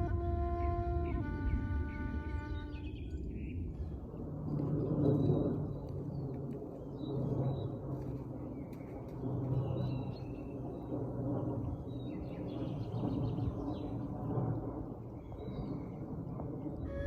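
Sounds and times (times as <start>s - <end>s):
low background rumble: 0.0s - 17.0s
small birds chirping: 2.4s - 16.9s.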